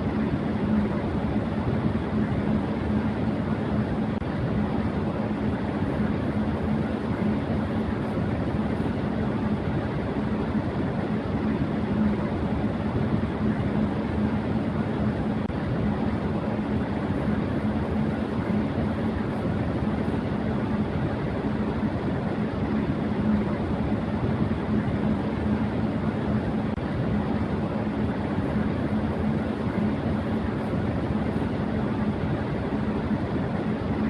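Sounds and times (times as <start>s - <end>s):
electric fan running: 0.0s - 34.0s.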